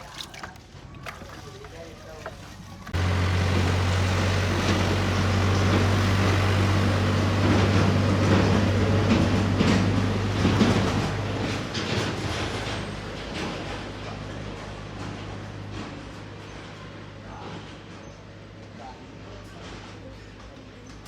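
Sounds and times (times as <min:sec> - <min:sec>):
machine humming with clattering: 0:02.2 - 0:21.0.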